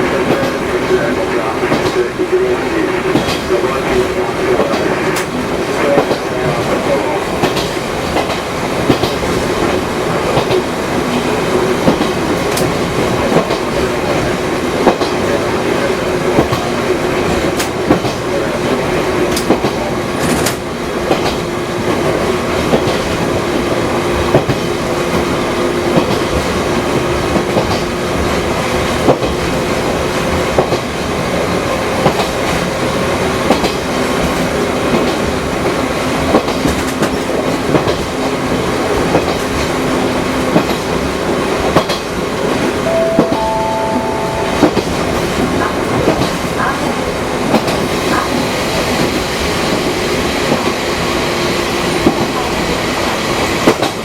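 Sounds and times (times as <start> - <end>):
train wheels rumbling on rail: 0.0 - 43.5, 44.6 - 54.0.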